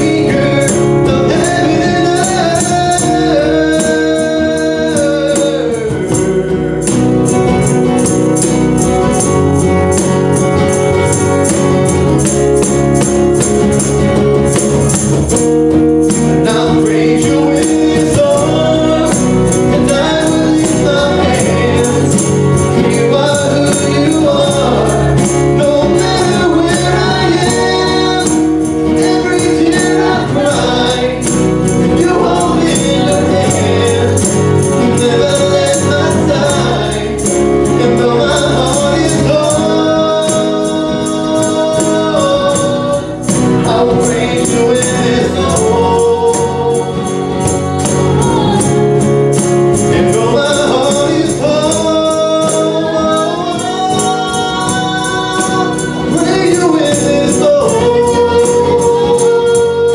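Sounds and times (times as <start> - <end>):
woman and man singing: 0.0 - 7.4, 16.0 - 59.9
cajon: 0.0 - 59.9
strummed acoustic guitars: 0.0 - 59.9
tambourine: 0.0 - 59.9.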